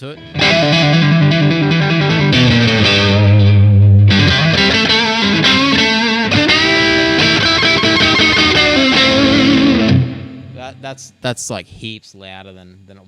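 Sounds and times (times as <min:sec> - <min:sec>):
overdriven electric guitar: 0:00.0 - 0:10.7.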